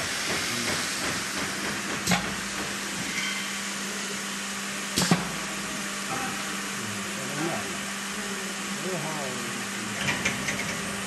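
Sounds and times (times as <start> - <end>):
baking machine hiss and hum: 0.0 - 11.0.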